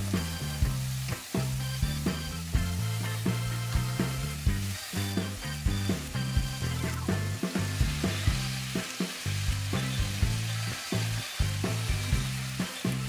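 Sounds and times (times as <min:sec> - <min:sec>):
background music with beat: 0:00.0 - 0:13.0
food sizzling in a frying pan: 0:00.0 - 0:13.0.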